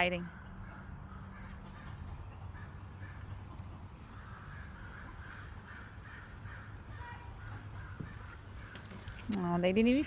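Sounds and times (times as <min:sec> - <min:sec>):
crows cawing: 0:00.3 - 0:09.1.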